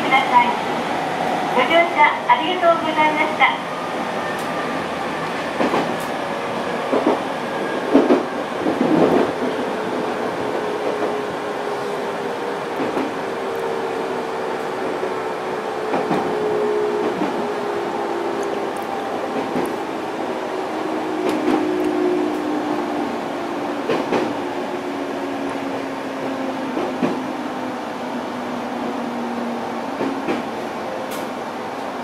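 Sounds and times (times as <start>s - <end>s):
electric train on rails: 0.0s - 32.0s.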